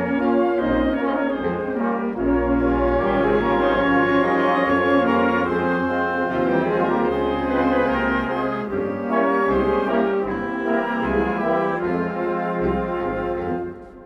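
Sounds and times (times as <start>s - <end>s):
brass band playing a march: 0.0s - 14.0s.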